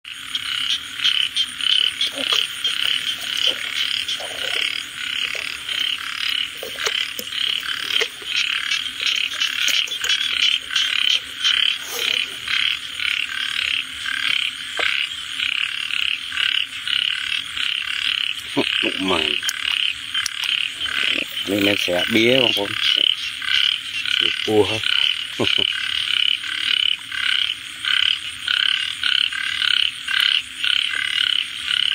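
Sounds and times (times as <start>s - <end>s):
frogs chorus calling: 0.0s - 31.9s.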